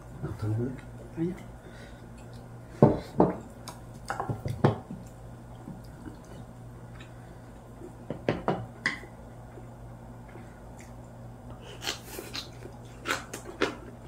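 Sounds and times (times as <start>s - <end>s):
low steady hum: 0.0s - 14.0s
soft wet chewing: 0.7s - 8.0s, 9.5s - 14.0s.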